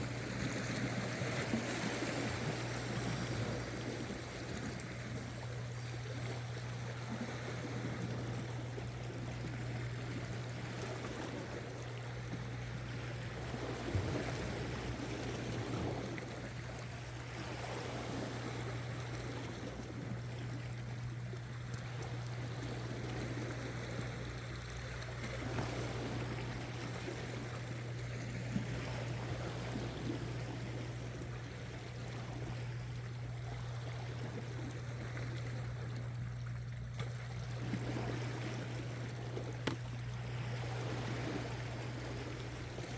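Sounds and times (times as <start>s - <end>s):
sea water lapping against rocks: 0.0s - 42.9s
steady low hum: 0.0s - 42.9s.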